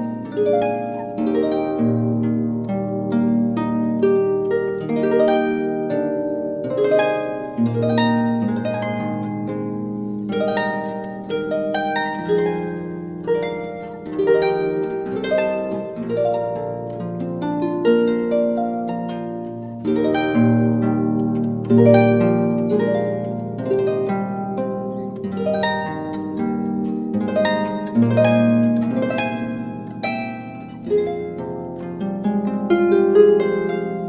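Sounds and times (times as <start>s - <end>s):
slow instrumental music: 0.0s - 34.0s.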